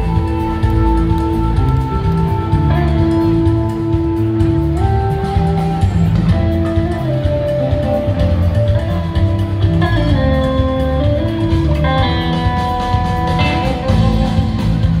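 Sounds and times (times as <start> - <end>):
electric guitar lead notes: 0.0 - 15.0
rock band playing live: 0.0 - 15.0.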